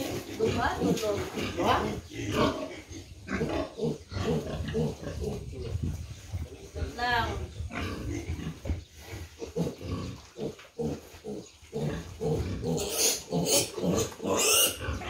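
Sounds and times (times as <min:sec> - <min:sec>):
piglets grunting: 0:00.0 - 0:05.9, 0:07.5 - 0:15.0.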